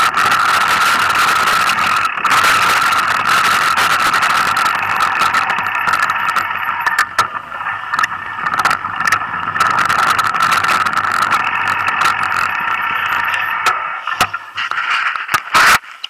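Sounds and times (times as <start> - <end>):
high-pitched buzz: 0.0 - 14.7
bike knocking and rattling: 0.0 - 15.8.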